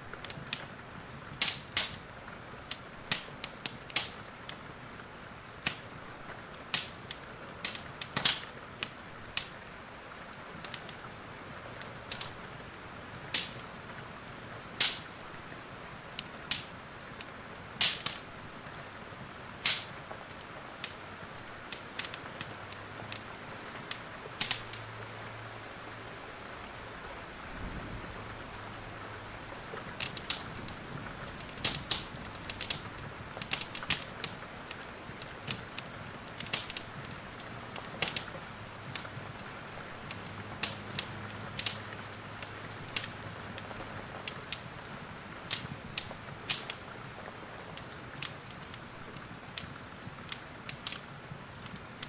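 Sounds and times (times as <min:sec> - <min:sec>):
rain hissing: 0:00.0 - 0:52.0
wood fire crackling: 0:00.0 - 0:52.0.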